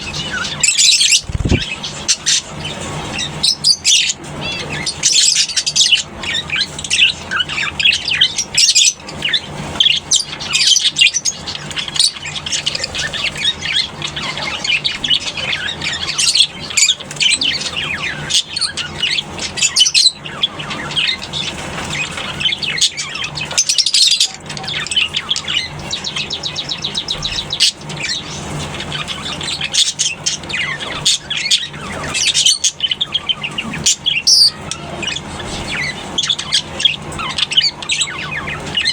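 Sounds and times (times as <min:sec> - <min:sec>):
lovebirds chattering and squawking: 0:00.0 - 0:38.9.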